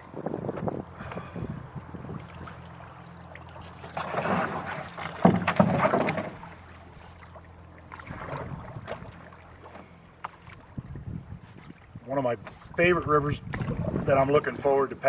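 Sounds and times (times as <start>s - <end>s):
paddle splashing in water: 1.0s - 14.6s.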